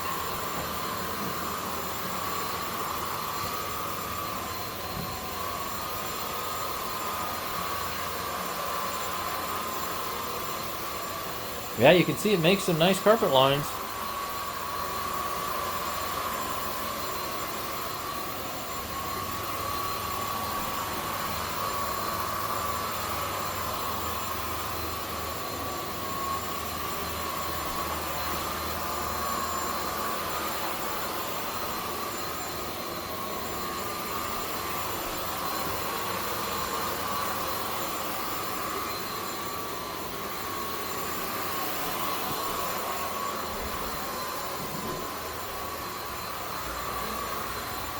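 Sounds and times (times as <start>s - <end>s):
stick vacuum running on carpet: 0.0s - 47.9s.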